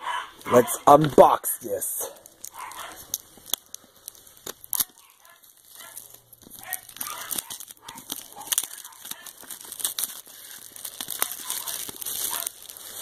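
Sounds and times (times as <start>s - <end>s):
plastic wrap crinkling and tearing: 2.0s - 13.0s.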